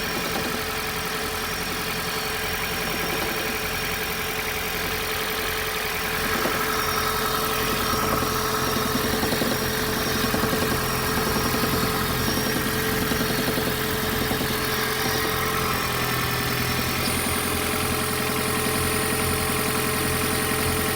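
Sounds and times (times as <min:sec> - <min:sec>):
car engine running: 0:00.0 - 0:20.9
fast rattling from engine: 0:00.0 - 0:20.9.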